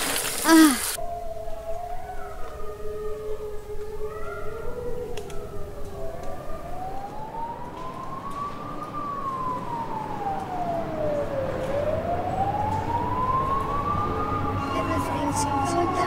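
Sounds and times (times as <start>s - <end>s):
siren wailing: 0.5s - 16.0s.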